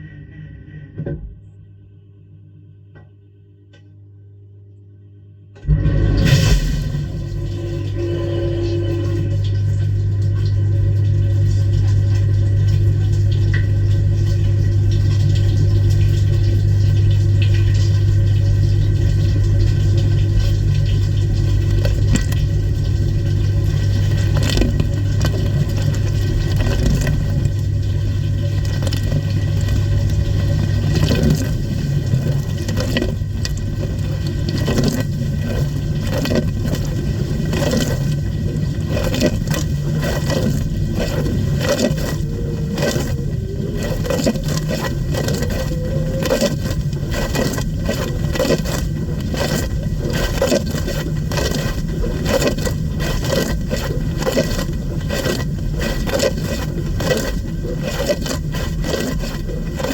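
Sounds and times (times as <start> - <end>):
low pump hum: 0.0 - 59.9
water spraying in dishwasher: 5.6 - 59.9.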